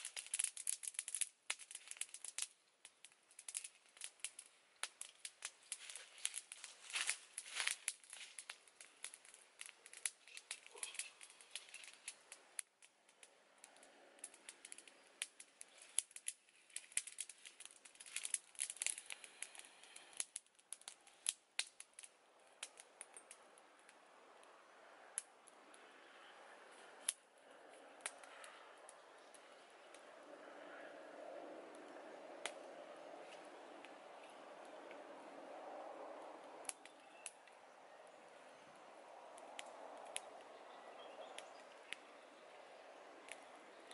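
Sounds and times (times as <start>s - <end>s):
soft steady hiss: 0.0s - 43.9s
wood fire crackling: 0.0s - 43.9s.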